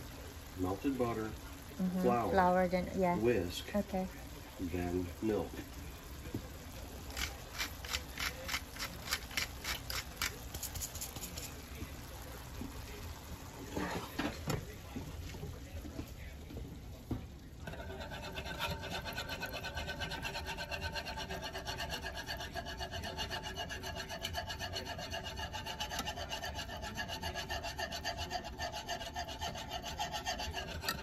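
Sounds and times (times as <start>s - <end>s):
whisk scraping metal saucepan: 3.2s - 15.0s, 17.6s - 31.0s.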